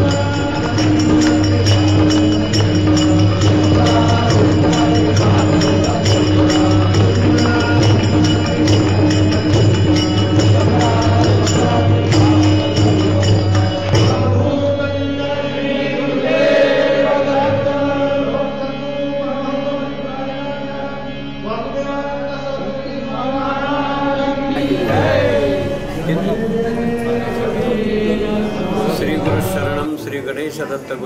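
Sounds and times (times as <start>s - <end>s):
chanted devotional singing: 0.0s - 31.0s.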